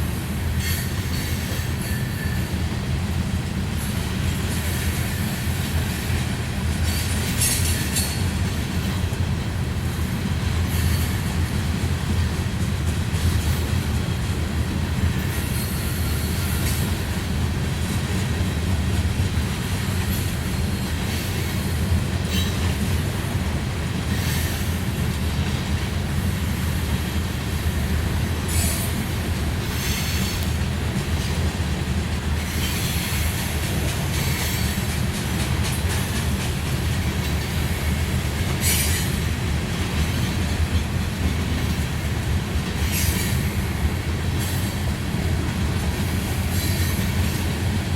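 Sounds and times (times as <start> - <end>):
train wheel squeals: 0.0 - 2.8, 3.8 - 9.0, 9.9 - 11.6, 15.0 - 17.3, 19.6 - 23.4, 24.1 - 31.6, 32.3 - 47.8
train cars rumbling: 0.0 - 47.9.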